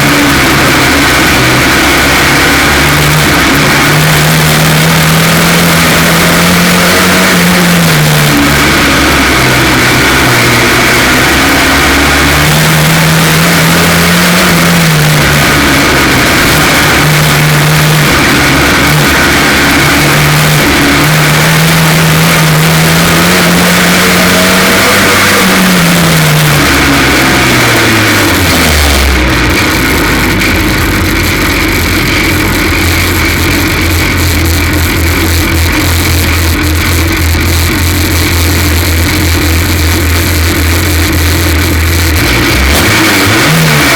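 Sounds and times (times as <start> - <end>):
race car engine misfiring: 0.0 - 43.9.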